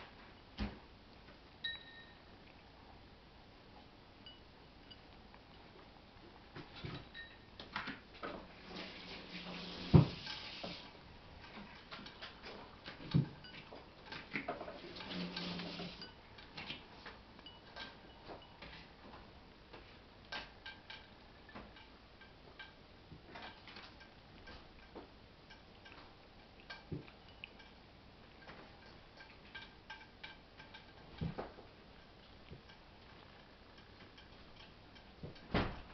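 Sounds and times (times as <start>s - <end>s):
cats chewing and licking: 2.2s - 4.0s, 4.6s - 35.5s.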